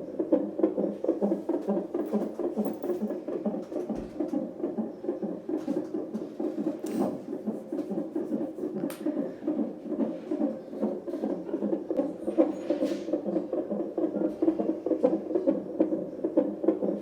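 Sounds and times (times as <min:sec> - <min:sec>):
rhythmic whooshing heartbeat pulse: 0:00.0 - 0:17.0.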